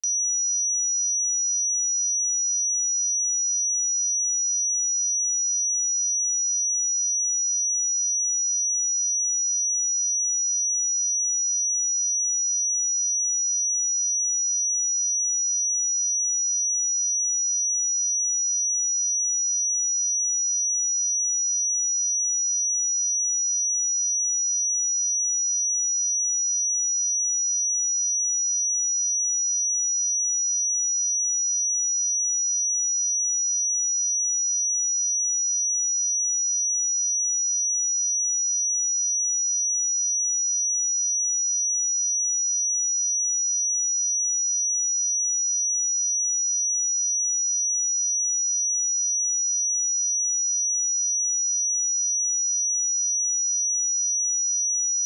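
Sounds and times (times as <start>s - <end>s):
high-pitched sine test tone: 0.0s - 55.0s.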